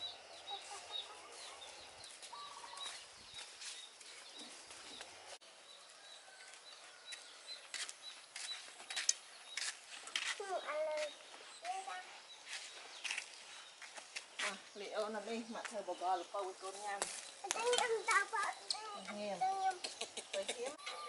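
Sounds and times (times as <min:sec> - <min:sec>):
footsteps rustling through undergrowth: 0:00.0 - 0:19.8.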